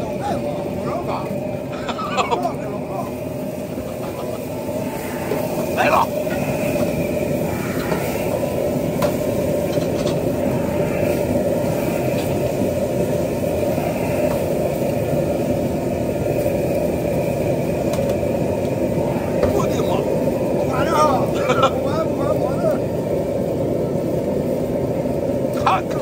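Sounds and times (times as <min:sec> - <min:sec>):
wok burner roaring: 0:00.0 - 0:26.0.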